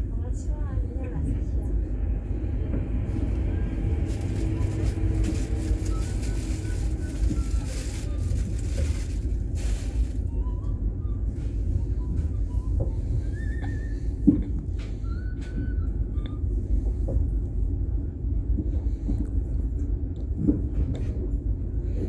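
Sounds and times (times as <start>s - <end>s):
train coach rumbling: 0.0s - 22.0s.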